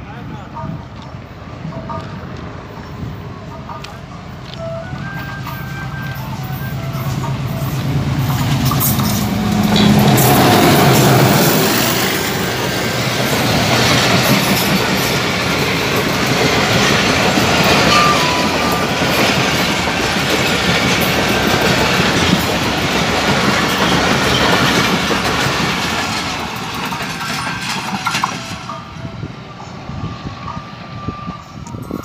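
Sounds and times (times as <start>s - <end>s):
train wheels running over rails: 3.8s - 32.0s.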